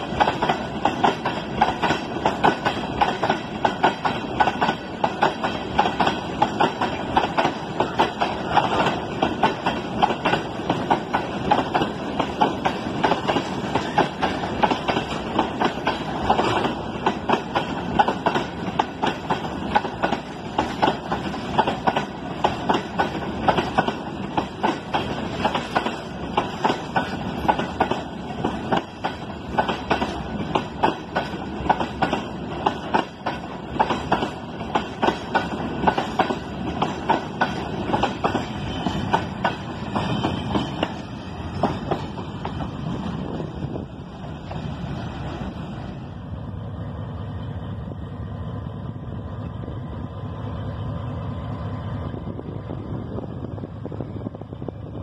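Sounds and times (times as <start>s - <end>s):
train wheels clacking over rail joints: 0.0s - 46.0s
train rumble: 0.0s - 55.0s.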